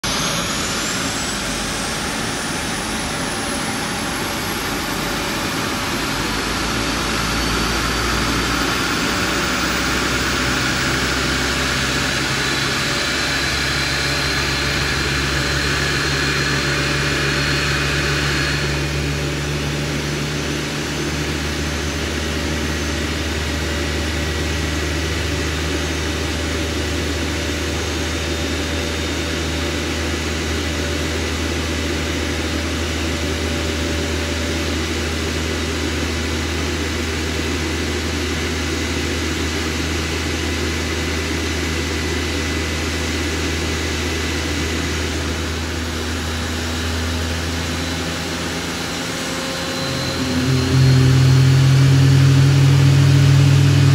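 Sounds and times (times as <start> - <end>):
jet engine spooling up: 0.0 - 53.9.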